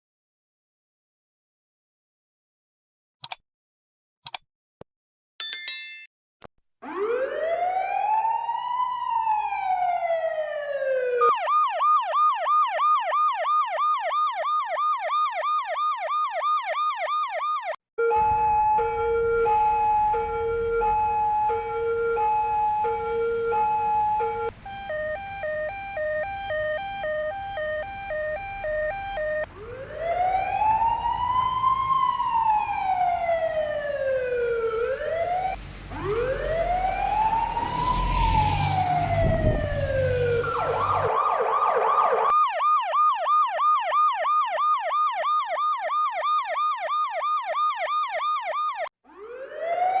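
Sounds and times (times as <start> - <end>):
fast yelp siren: 6.8 - 50.0
two-tone siren: 6.8 - 50.0
wailing siren: 6.8 - 50.0.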